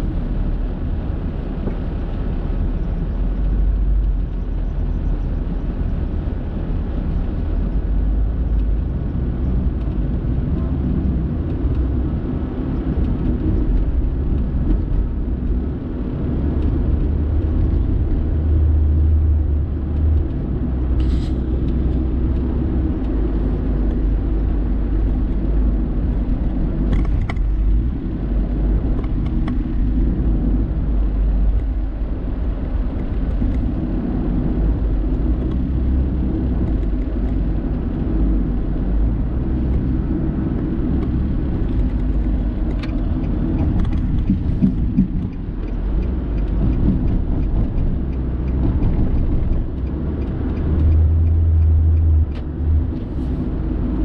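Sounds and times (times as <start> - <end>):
car interior road rumble: 0.0 - 54.0.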